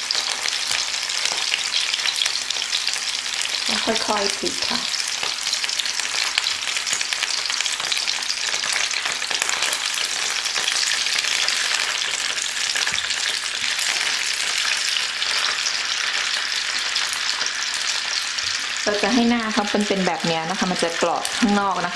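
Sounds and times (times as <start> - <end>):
sausages sizzling in oil: 0.0 - 21.9.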